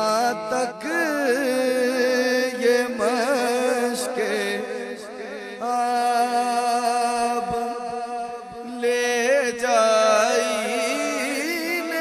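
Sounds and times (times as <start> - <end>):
man singing lament: 0.0 - 12.0.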